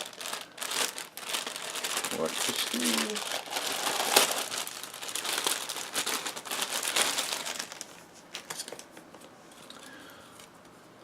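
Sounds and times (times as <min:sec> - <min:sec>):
packaging crinkling and rustling: 0:00.0 - 0:09.3.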